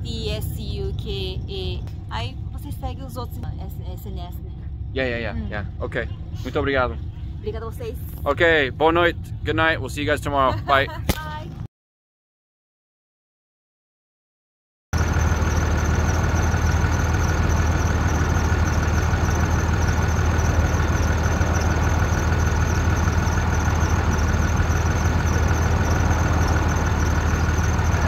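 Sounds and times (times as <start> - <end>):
car engine idling: 0.0 - 11.6, 15.0 - 28.0.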